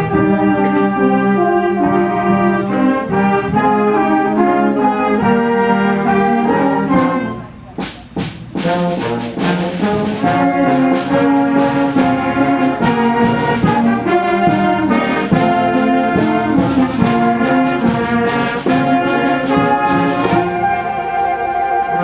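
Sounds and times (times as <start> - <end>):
brass instruments: 0.0 - 22.0
wind band playing: 0.0 - 22.0.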